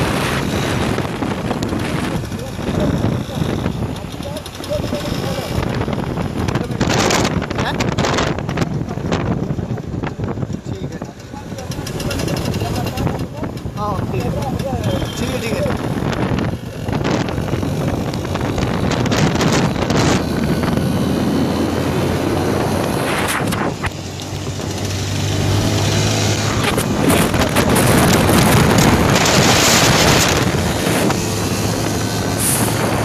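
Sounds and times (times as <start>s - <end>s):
motorcycle engine drone: 0.0s - 33.0s
road noise: 0.0s - 33.0s
wind buffeting microphone: 0.0s - 33.0s.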